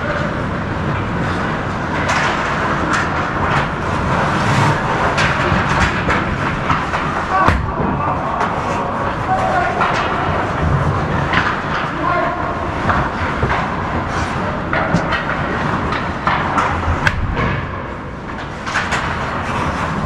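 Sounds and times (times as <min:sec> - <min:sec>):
hockey sticks and puck clacking: 0:00.0 - 0:20.0
ice rink din: 0:00.0 - 0:20.0.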